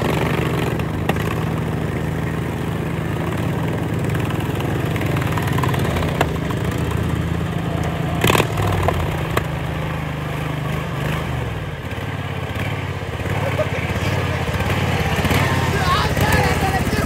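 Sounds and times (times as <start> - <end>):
lawn tractor engines idling: 0.0 - 17.0.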